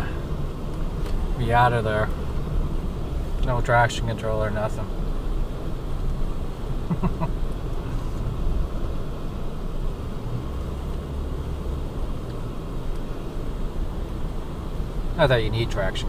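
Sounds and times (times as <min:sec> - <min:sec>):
vehicle engine and tyres rumble: 0:00.0 - 0:16.0.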